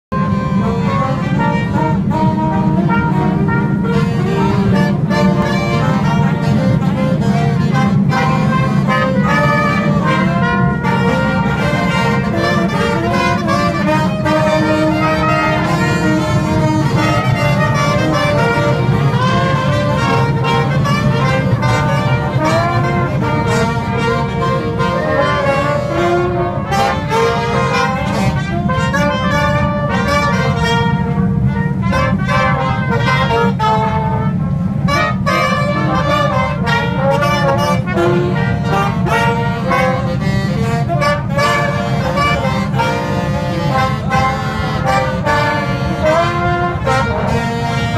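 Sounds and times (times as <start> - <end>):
subway car rumble: 0.0 - 47.9
brass band playing: 0.1 - 47.9.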